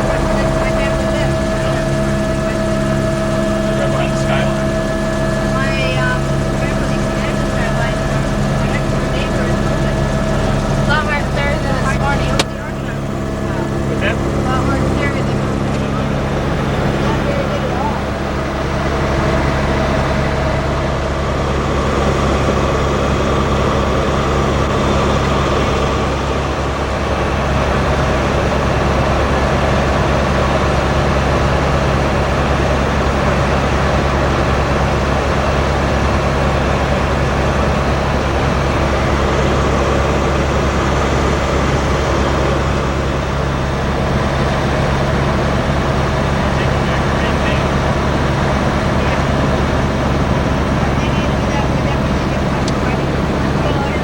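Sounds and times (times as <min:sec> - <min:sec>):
helicopter droning: 0:00.0 - 0:54.0.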